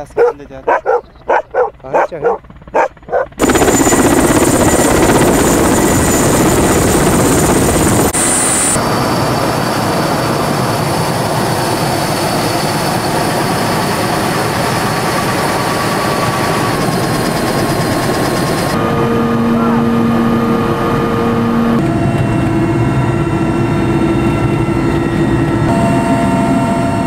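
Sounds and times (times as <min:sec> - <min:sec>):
helicopter rotor and turbines: 0:00.0 - 0:27.0.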